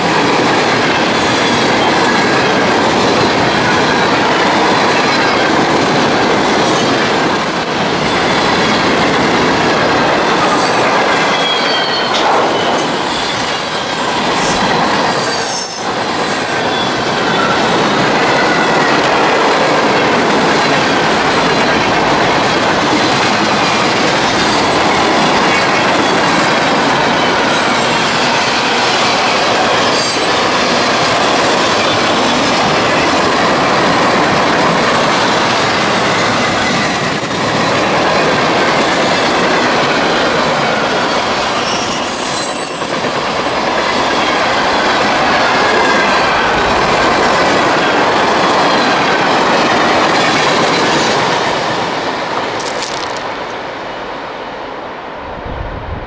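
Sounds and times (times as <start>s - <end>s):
clickety-clack over rail joints: 0.0s - 53.6s
train wheels rolling on rail: 0.0s - 56.0s.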